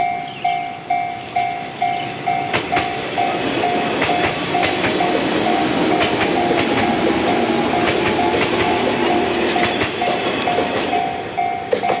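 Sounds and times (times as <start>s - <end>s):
level crossing warning bell: 0.0s - 12.0s
train rumble: 0.0s - 12.0s
train wheels clacking over rail joints: 1.4s - 12.0s.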